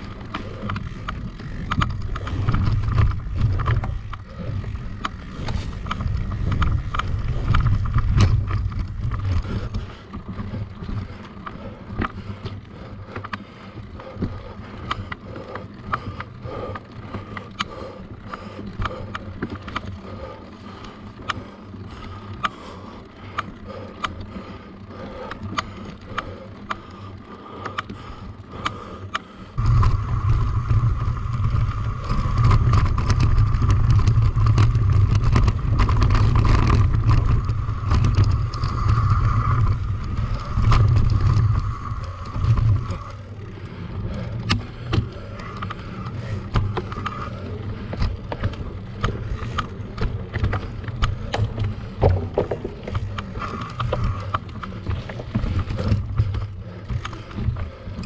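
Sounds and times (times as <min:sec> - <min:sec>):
bike rattling and clicking: 0:00.0 - 0:58.0
wind and riding rumble: 0:00.0 - 0:58.0.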